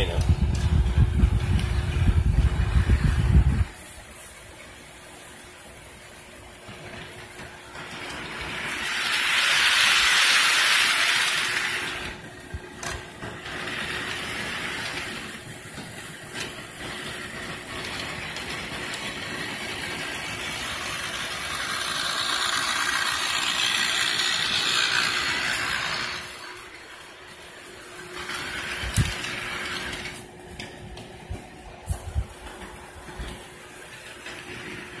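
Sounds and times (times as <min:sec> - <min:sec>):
model trains rolling on track: 0:00.0 - 0:35.0.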